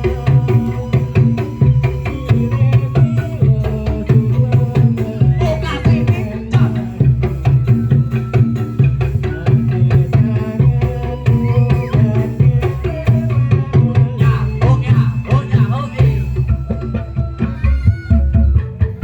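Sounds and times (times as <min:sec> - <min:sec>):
drums keeping a steady beat: 0:00.0 - 0:19.0.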